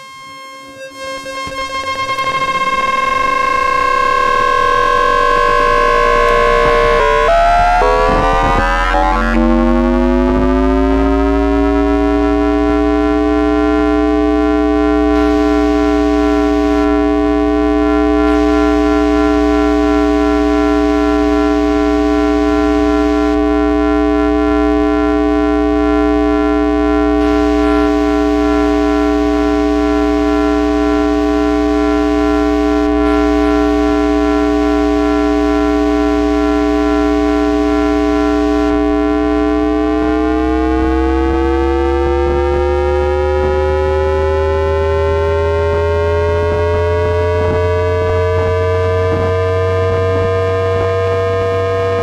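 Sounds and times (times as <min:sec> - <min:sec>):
traction inverter buzzing tone: 0:00.0 - 0:52.0
low motor hum: 0:01.6 - 0:52.0.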